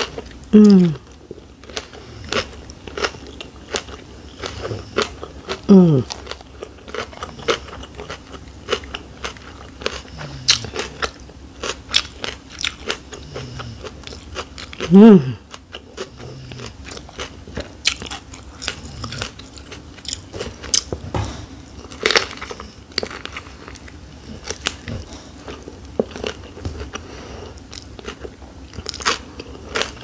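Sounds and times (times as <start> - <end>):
chewing with wet mouth smacks: 1.2 - 14.9, 15.5 - 21.0, 21.7 - 30.0.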